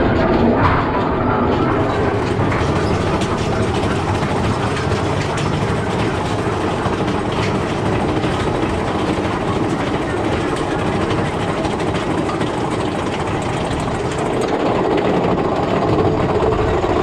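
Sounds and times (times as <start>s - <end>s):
roller coaster wheels rumbling on rails: 0.0s - 17.0s.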